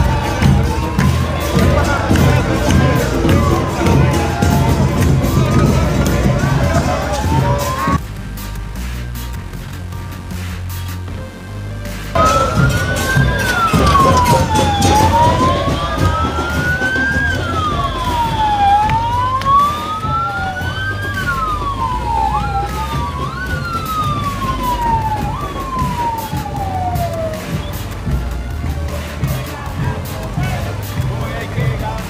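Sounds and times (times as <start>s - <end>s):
emergency sirens wailing: 0.0s - 8.0s, 12.1s - 32.0s.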